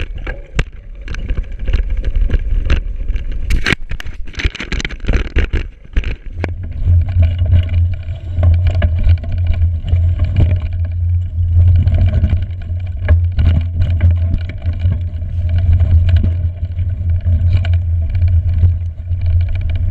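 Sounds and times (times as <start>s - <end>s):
bike knocks and rattles: 0.0s - 19.9s
bike rumbling over rough trail: 0.0s - 19.9s.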